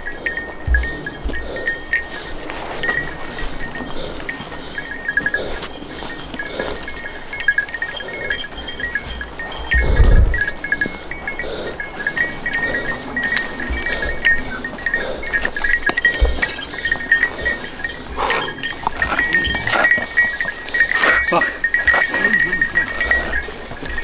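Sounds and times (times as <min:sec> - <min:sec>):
dog collar bells jingling: 0:00.0 - 0:24.0
dogs scuffling and tugging: 0:00.3 - 0:24.0.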